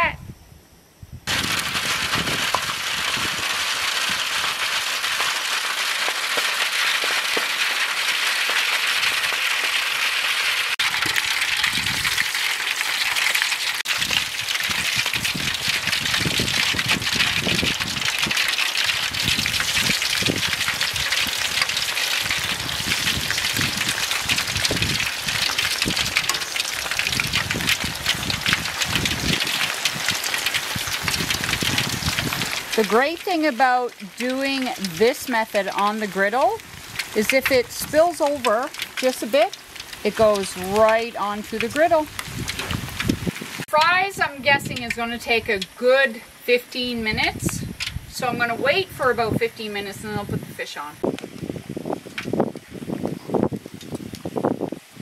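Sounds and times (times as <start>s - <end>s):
fries sizzling in hot oil: 1.3s - 55.0s.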